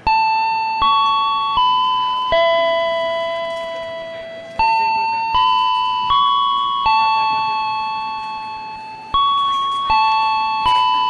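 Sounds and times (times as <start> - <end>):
electronic chime melody: 0.0 - 11.0.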